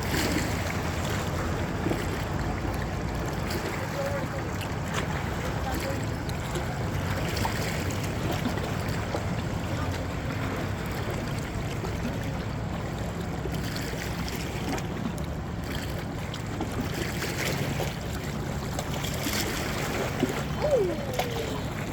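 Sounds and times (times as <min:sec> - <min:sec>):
boat engine drone: 0:00.0 - 0:21.9
water wash: 0:00.0 - 0:21.9.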